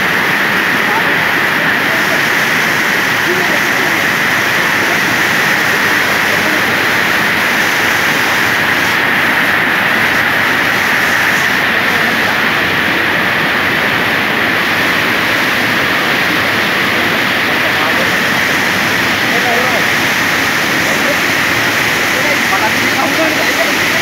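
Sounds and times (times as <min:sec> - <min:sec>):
river water rushing over weir: 0:00.0 - 0:24.0.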